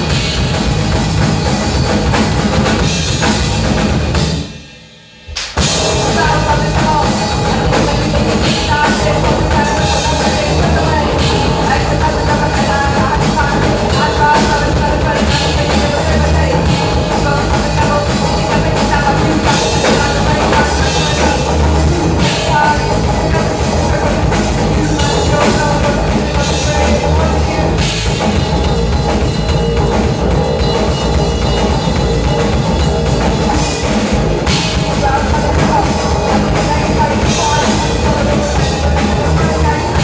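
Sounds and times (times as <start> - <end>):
drum kit: 0.0 - 40.0
electric guitar: 5.3 - 40.0.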